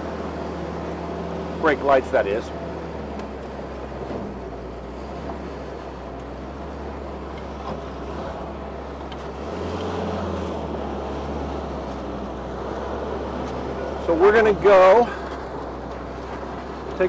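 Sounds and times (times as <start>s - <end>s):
jeep engine idling: 0.0s - 17.0s.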